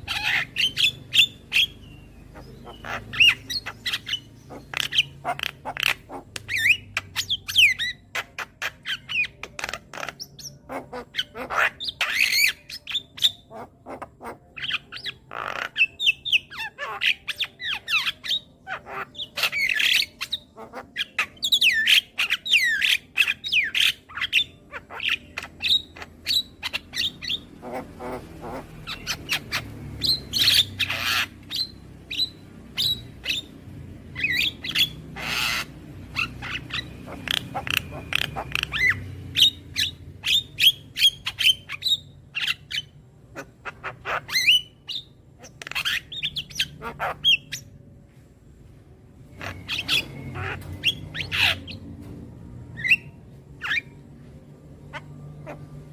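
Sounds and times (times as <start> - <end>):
myna bird chattering: 0.0 - 47.7, 49.3 - 51.8.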